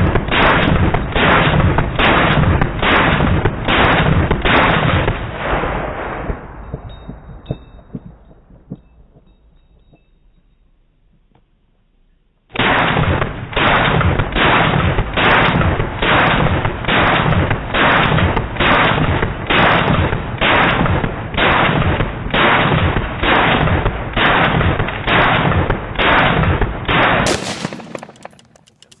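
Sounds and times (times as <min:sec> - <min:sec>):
rifle shots: 0:00.0 - 0:06.9, 0:12.5 - 0:29.0.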